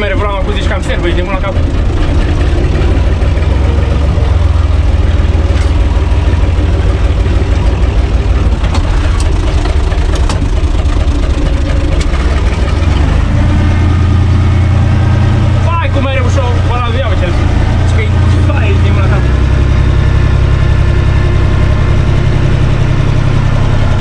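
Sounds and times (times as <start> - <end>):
diesel tractor engine humming: 0.0 - 24.0.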